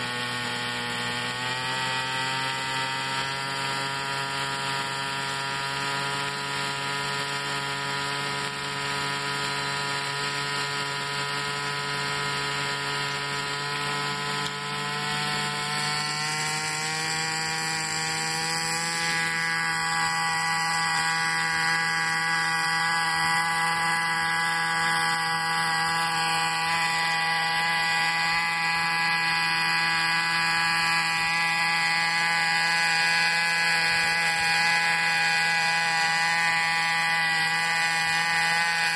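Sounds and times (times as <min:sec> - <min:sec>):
model helicopter engine whining: 0:00.0 - 0:38.9.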